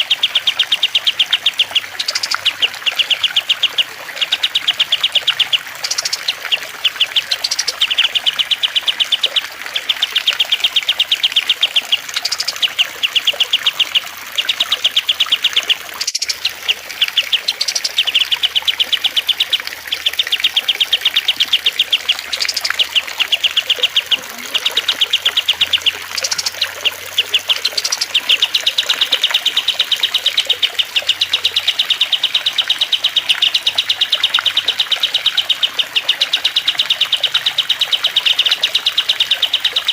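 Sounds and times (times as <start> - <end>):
songbird singing high trills: 0.1 - 39.4.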